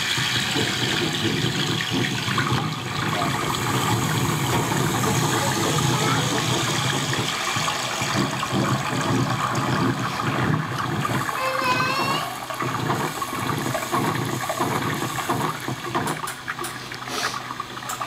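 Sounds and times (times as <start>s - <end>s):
water pouring: 0.0s - 18.0s.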